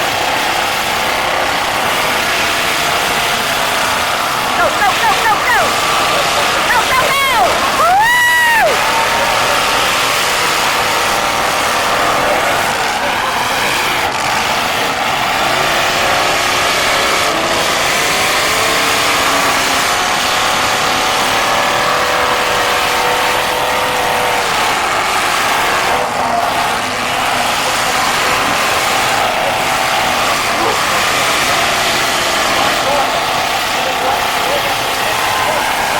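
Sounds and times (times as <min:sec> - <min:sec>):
car engines revving: 0:00.0 - 0:35.9.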